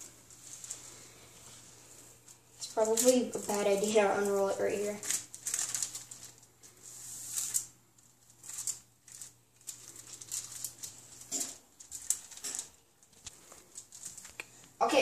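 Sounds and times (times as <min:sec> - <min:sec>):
wax paper rustling and crinkling: 0:00.0 - 0:15.0.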